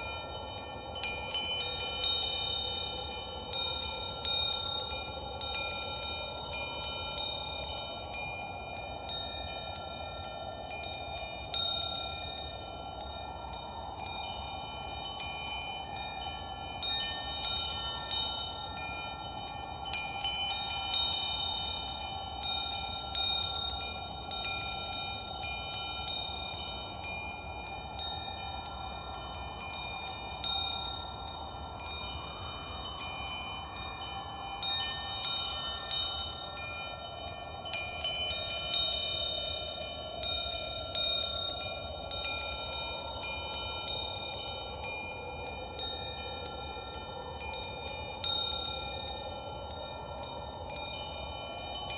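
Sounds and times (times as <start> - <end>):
chimes ringing: 0.0 - 51.9.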